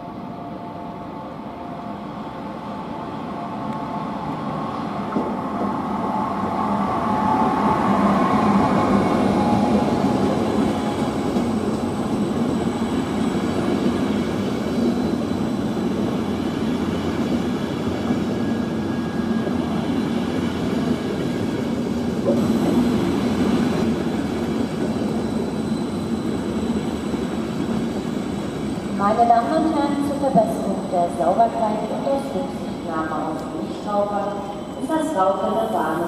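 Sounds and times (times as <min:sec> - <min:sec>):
train wheels rumbling on rails: 0:03.7 - 0:36.0.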